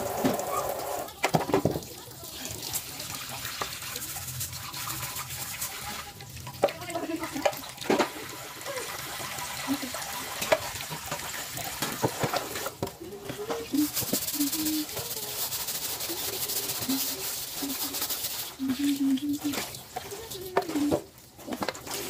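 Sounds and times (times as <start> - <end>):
tap water running into sink: 0.0 - 22.0.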